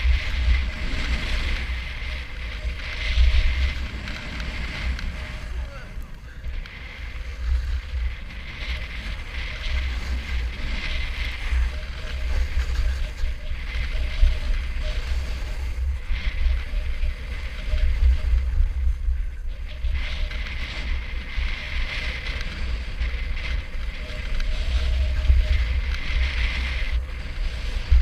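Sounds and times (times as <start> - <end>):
snowboard sliding on snow: 0.0 - 28.0
wind buffeting microphone: 0.0 - 28.0.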